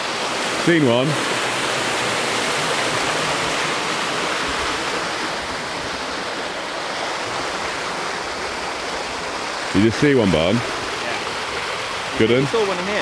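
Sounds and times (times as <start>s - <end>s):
water rushing through lock gates: 0.0s - 13.0s.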